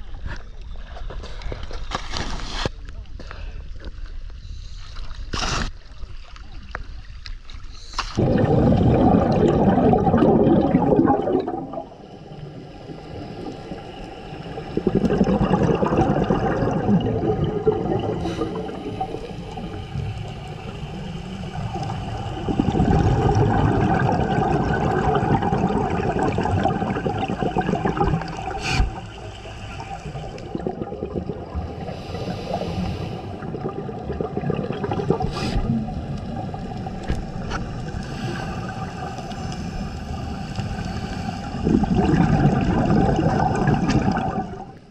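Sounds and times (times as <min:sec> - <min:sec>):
underwater bubbling rush: 0:08.2 - 0:44.9.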